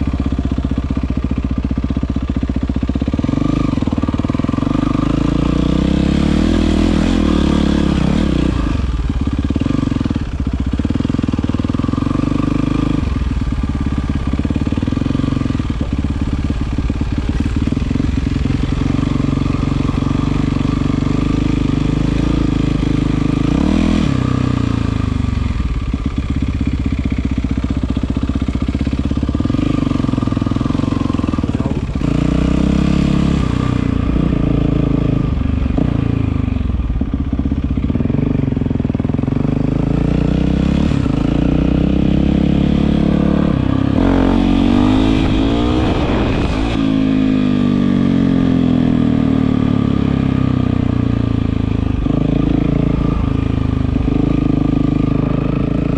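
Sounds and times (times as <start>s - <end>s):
dirt bike engine revving: 3.1s - 25.3s, 28.5s - 36.4s, 39.1s - 55.9s.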